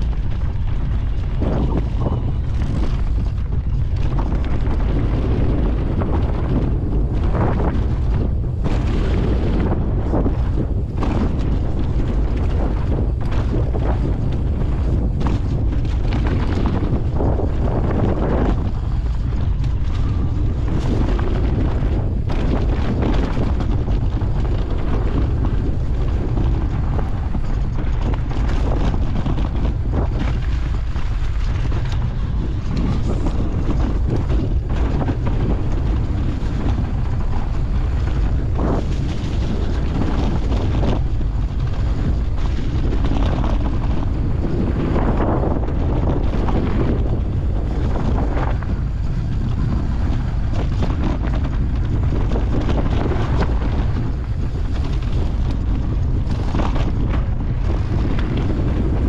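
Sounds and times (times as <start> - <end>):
bike rattling over bumps: 0.0 - 59.0
wind rushing over microphone: 0.0 - 59.0.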